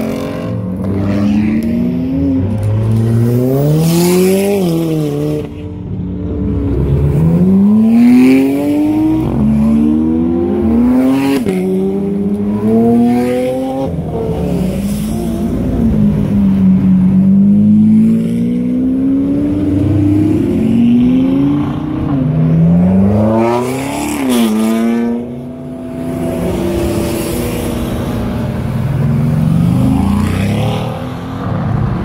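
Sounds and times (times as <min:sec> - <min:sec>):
sports car engines accelerating: 0:00.0 - 0:32.0.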